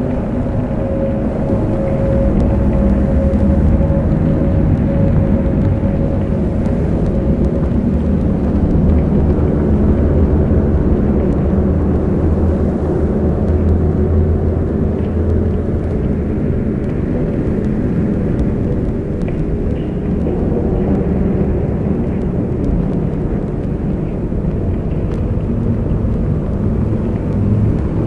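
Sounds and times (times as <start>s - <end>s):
ambient drone: 0.0s - 28.0s.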